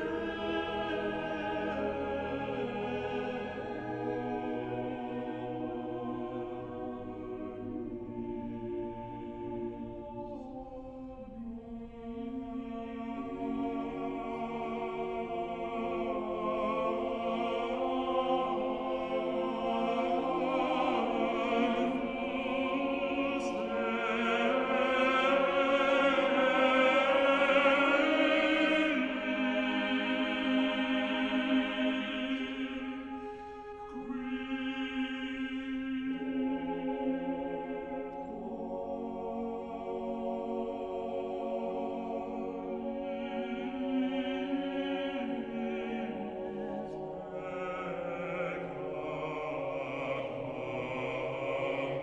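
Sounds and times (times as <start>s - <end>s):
solemn choral singing: 0.0s - 52.0s.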